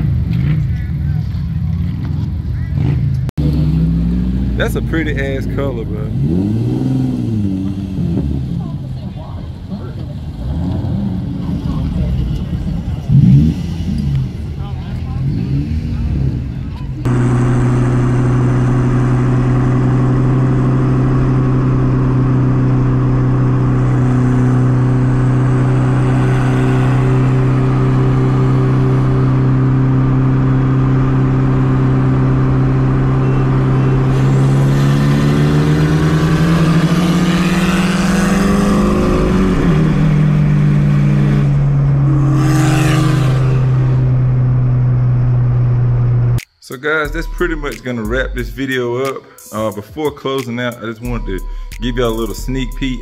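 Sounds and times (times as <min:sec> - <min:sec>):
car engine droning: 0:00.0 - 0:48.8, 0:50.9 - 0:53.0.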